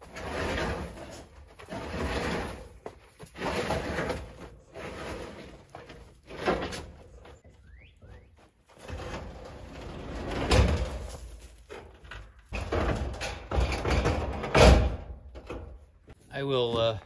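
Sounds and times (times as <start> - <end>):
metal cage scraping and knocking: 0.0 - 7.3, 8.8 - 15.8.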